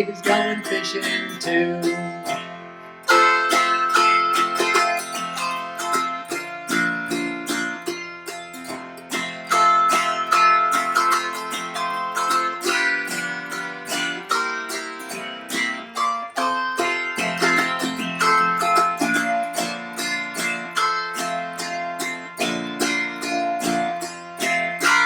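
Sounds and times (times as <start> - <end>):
autoharp playing blues: 0.0 - 25.0.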